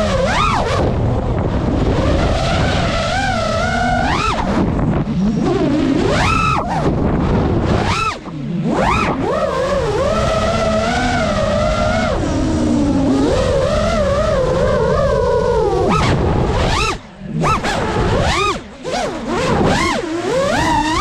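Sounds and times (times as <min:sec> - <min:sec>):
drone motors whining: 0:00.0 - 0:21.0
wind and prop wash rumble: 0:00.0 - 0:21.0.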